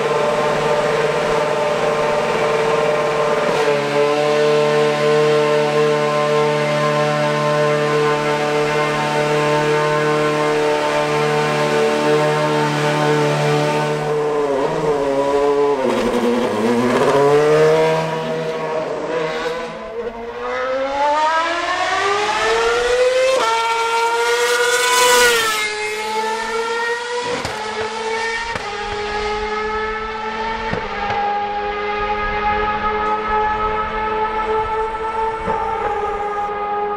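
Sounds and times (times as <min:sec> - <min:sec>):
racing car engine at high revs: 0:00.0 - 0:36.9.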